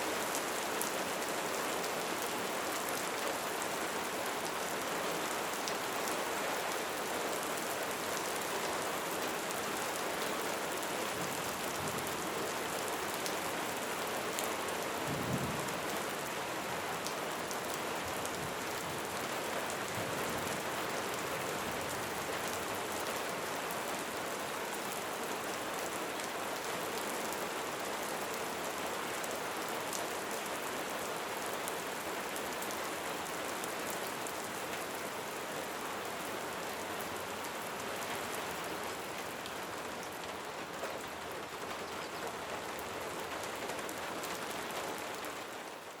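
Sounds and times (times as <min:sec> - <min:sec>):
light rain pattering: 0:00.0 - 0:46.0.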